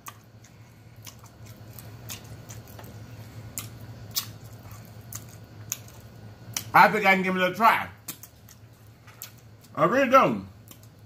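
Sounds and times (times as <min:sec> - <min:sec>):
person chewing food: 0:00.0 - 0:06.7, 0:08.0 - 0:09.8, 0:10.5 - 0:11.0.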